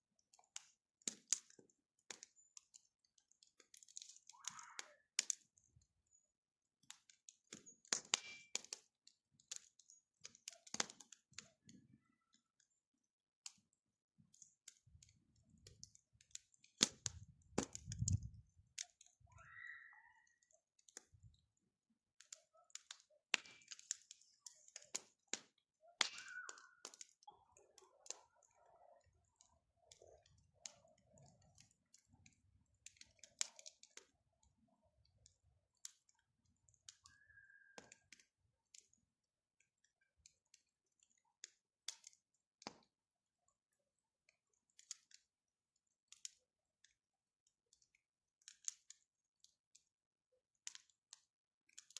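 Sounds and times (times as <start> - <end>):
wood fire crackling: 0.2 - 43.0, 44.3 - 45.3, 46.0 - 46.9, 47.6 - 49.9, 50.6 - 51.9.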